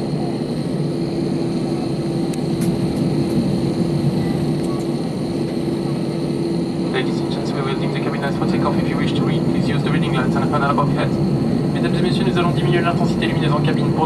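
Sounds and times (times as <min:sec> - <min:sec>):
airliner cabin drone while taxiing: 0:00.0 - 0:14.0
constant hum: 0:00.0 - 0:14.0.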